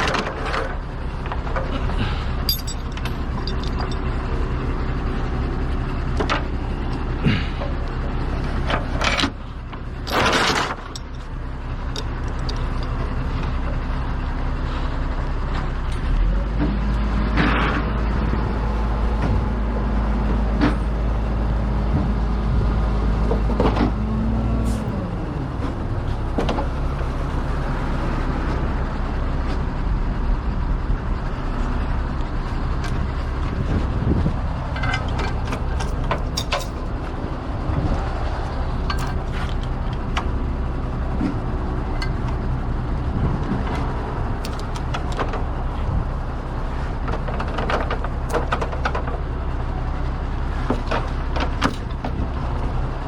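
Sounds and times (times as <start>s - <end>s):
deep hum with falling tone: 0.0s - 53.0s
heavy truck engine running: 0.0s - 53.0s.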